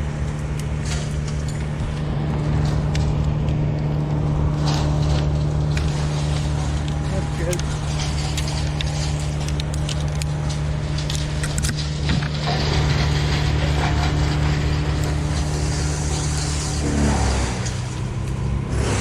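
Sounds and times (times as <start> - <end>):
large engine running: 0.0 - 19.0
sharp clicks and crackles: 0.0 - 19.0.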